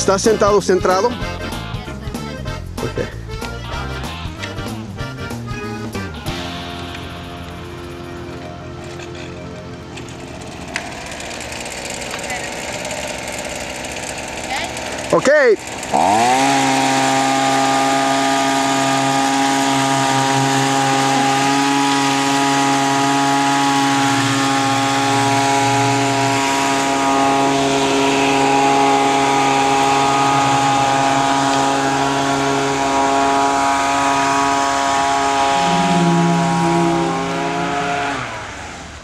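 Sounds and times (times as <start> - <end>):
leaf blower running: 0.0 - 39.0.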